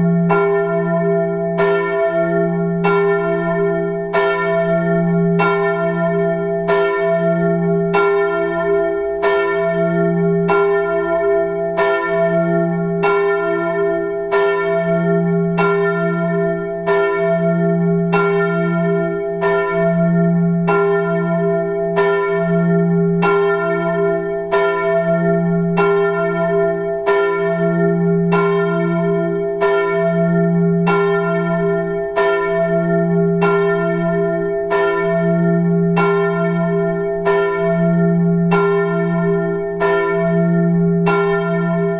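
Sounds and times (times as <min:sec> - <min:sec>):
church bell tolling: 0:00.0 - 0:41.9.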